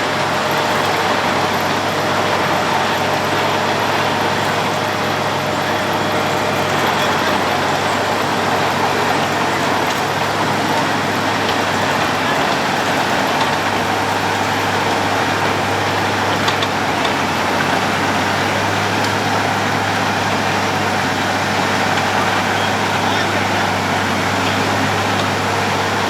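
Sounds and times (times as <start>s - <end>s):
low engine hum: 0.0s - 26.0s
road planer mechanical din: 0.0s - 26.0s.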